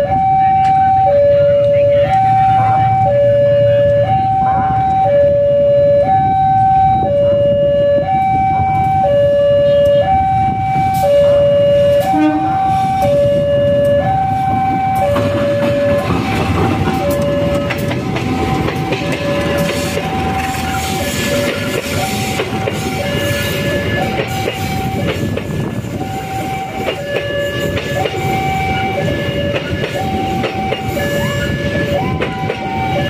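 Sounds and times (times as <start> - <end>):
diesel locomotive passing: 0.0 - 33.0
level crossing two-tone alarm: 0.0 - 33.0.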